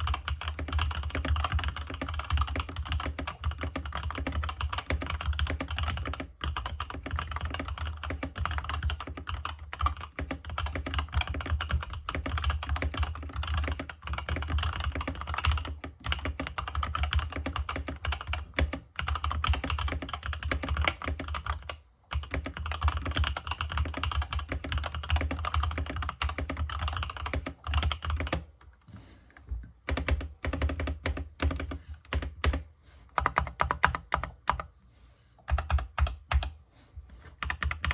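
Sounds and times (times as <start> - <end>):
typing on mechanical keyboard: 0.0 - 28.6, 29.8 - 34.7, 35.5 - 36.6, 37.4 - 37.9.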